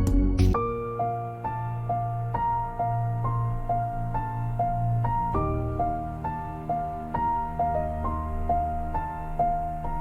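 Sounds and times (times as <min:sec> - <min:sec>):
gentle keyboard melody: 0:00.0 - 0:10.0.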